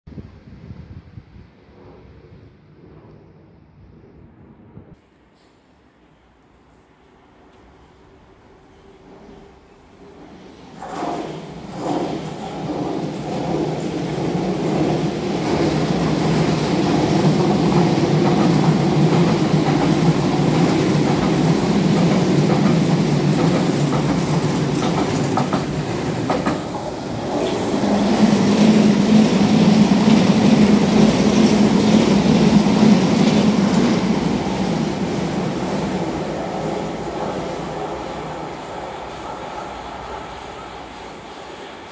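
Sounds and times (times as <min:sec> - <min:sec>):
train rumbling past on tracks: 0:00.2 - 0:41.9.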